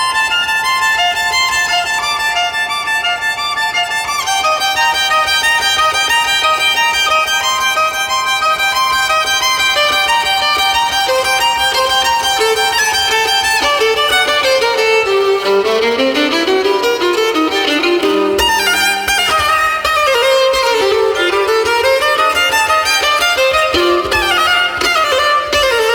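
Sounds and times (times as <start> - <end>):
solo violin playing: 0.0 - 25.9.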